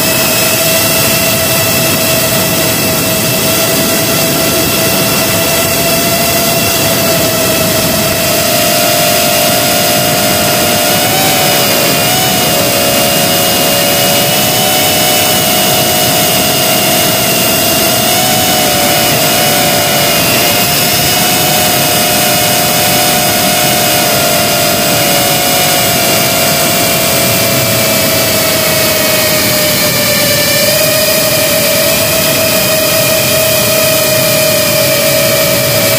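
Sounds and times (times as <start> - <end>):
drone motors whining: 0.0 - 35.9.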